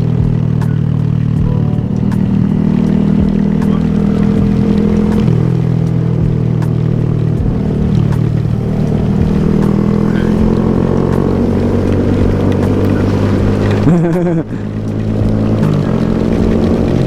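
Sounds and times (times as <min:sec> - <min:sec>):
motorcycle engine buzzing: 0:00.0 - 0:17.0.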